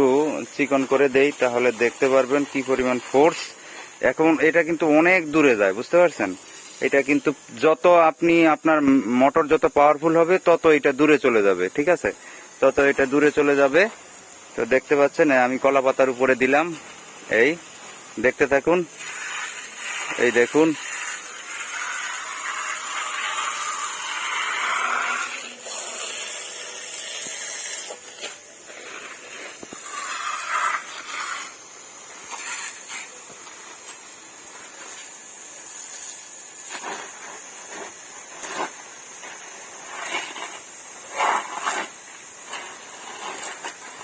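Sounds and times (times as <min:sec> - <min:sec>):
water jet spraying on leaf: 0:00.0 - 0:44.0.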